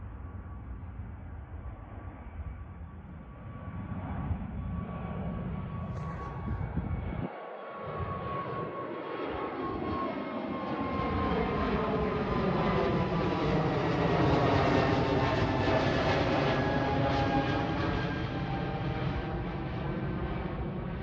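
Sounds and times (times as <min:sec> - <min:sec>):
jet airliner passing overhead: 0:00.0 - 0:21.0.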